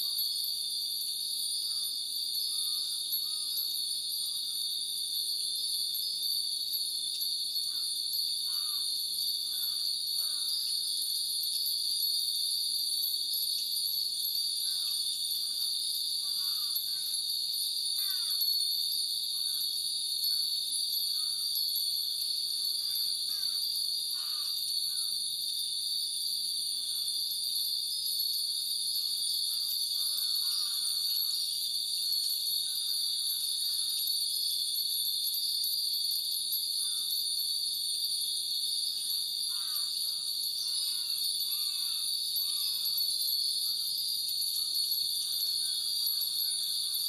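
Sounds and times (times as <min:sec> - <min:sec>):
cicadas droning: 0:00.0 - 0:47.0
wind bells tinkling: 0:02.3 - 0:47.0.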